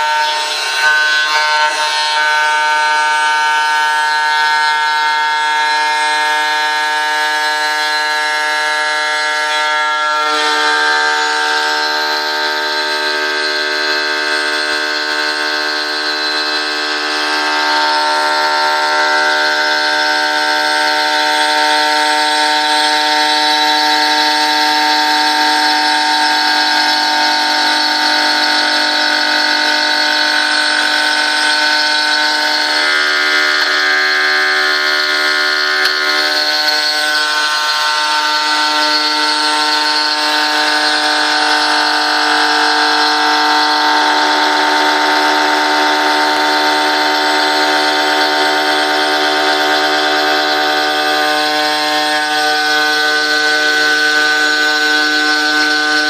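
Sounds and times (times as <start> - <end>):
metal cutting noise: 0.0 - 56.0
router spindle whine: 0.0 - 56.0.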